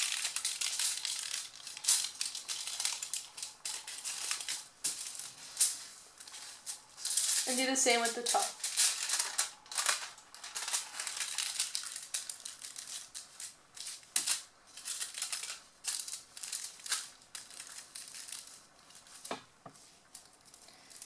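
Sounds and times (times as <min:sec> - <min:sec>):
aluminum foil crinkling: 0:00.0 - 0:21.0.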